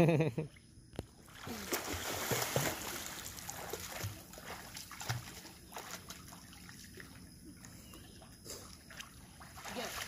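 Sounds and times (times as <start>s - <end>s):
child splashing in a pool: 1.3s - 10.0s.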